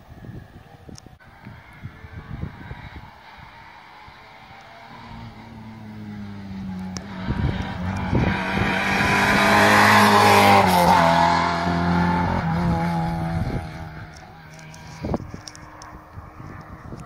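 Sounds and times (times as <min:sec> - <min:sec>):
rally car passing at high revs: 0:01.2 - 0:17.0.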